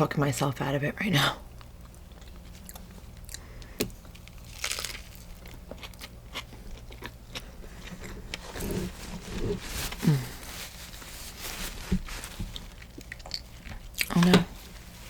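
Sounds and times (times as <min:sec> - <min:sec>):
crunching bread crust: 0:01.5 - 0:15.0.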